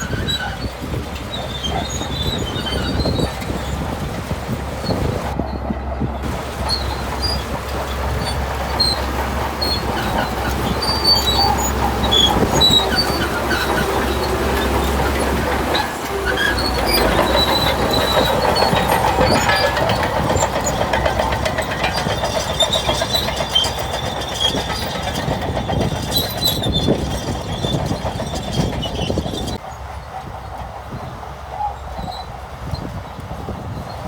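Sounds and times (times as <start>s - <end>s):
bulldozer diesel engine running: 0.0s - 34.0s
steel tracks clanking and squealing: 0.0s - 34.0s.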